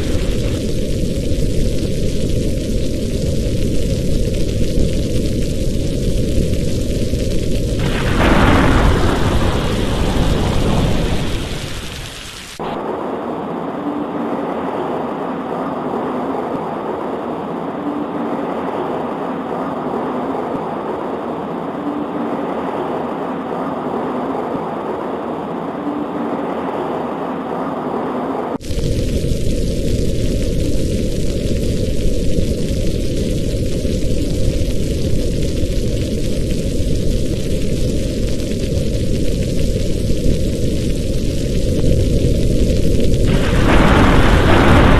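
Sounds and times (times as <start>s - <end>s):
rain on a window: 0.0s - 27.9s, 28.6s - 44.9s
heavy rain: 0.0s - 44.9s
thunder rumbling: 0.0s - 44.9s.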